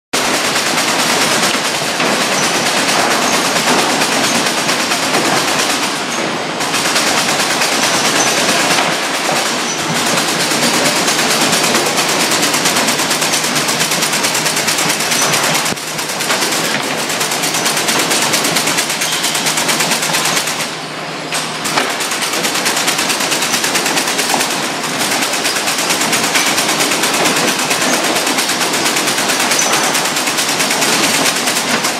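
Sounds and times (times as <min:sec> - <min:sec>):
stapling machine clattering: 0:00.2 - 0:31.9.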